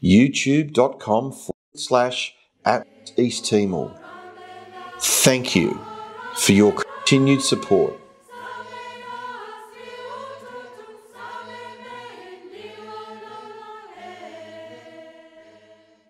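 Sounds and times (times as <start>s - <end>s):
choir singing held chords: 2.6s - 16.0s.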